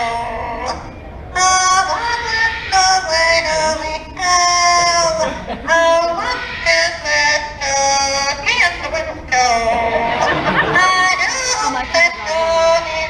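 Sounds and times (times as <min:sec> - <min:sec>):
parrot singing in mimicked voice: 0:00.0 - 0:13.0.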